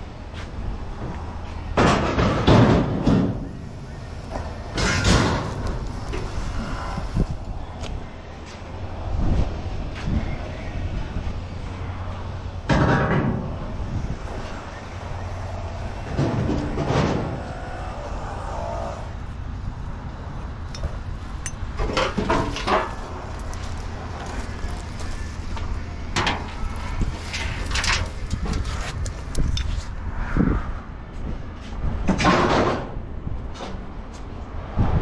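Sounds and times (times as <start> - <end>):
low rumble: 2.6 - 32.0.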